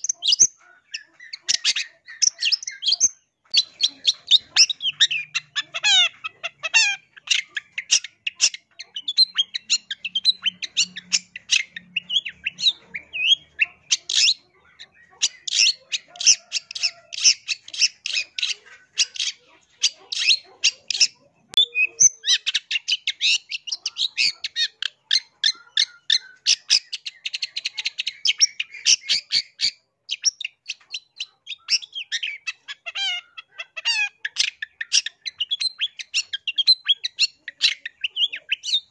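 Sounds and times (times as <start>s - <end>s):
shrike chattering song: 0.0s - 38.9s.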